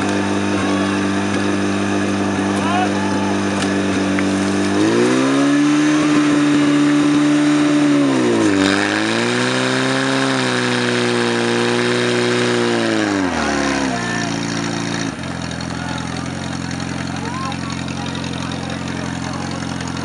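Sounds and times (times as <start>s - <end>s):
pump engine running hard: 0.0s - 20.0s.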